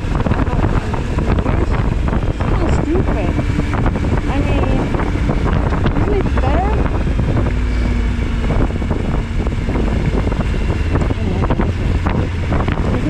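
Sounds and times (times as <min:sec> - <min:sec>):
motorcycle engine rumble: 0:00.0 - 0:13.0
road noise: 0:00.0 - 0:13.0
wind buffeting microphone: 0:00.0 - 0:13.0.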